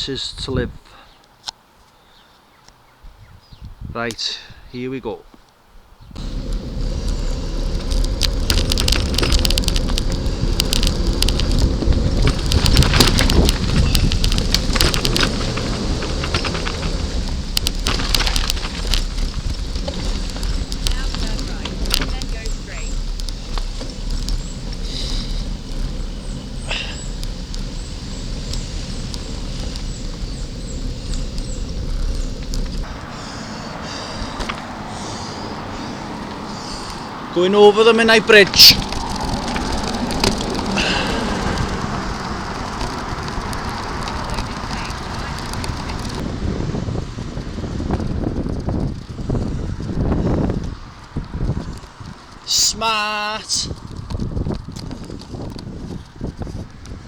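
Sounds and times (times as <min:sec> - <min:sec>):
wind rushing over microphone: 0:00.0 - 0:00.9, 0:03.0 - 0:04.8, 0:05.8 - 0:57.0
bicycle road rumble: 0:05.2 - 0:57.0
sharp crackles: 0:06.1 - 0:57.0.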